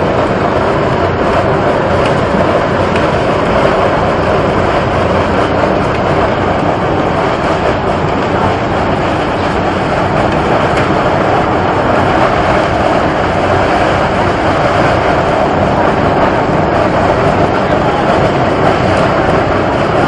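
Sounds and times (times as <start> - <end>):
mud and water jet rushing: 0.0 - 20.0.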